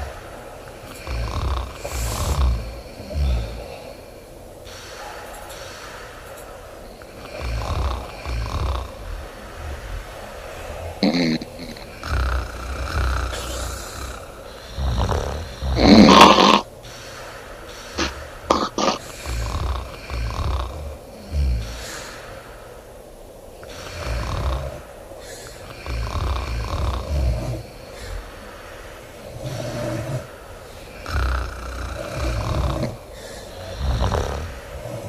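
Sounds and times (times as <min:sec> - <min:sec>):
woman snoring: 0:00.8 - 0:04.1, 0:06.9 - 0:16.7, 0:17.9 - 0:22.2, 0:23.6 - 0:35.0.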